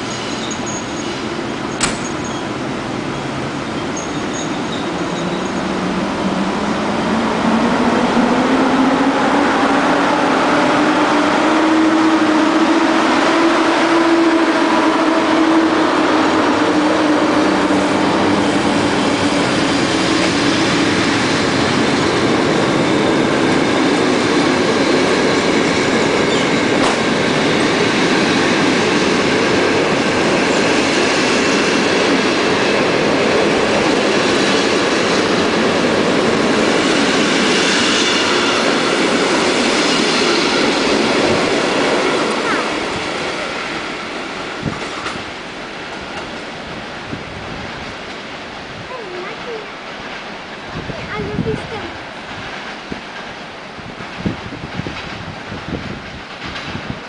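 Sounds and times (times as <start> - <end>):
electric locomotive humming: 0.0 - 57.0
passenger carriages rolling past: 10.4 - 57.0.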